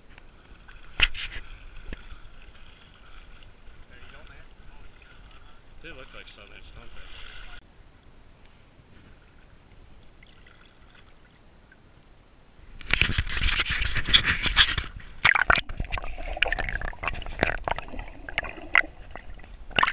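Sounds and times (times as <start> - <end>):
water sloshing and splashing: 0.2 - 7.6, 9.2 - 11.5, 12.9 - 19.9.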